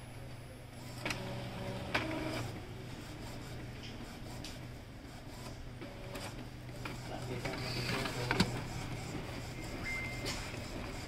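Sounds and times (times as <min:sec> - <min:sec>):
printer humming: 0:00.0 - 0:11.0.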